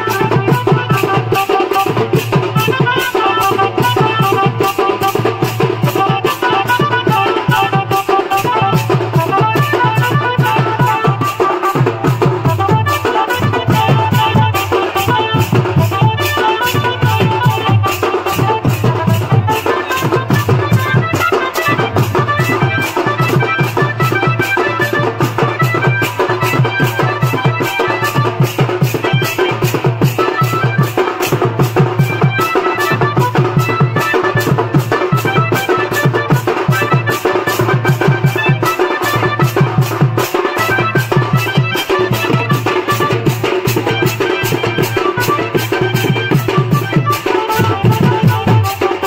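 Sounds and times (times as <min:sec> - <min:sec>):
fast steady drumming: 0:00.0 - 0:49.0.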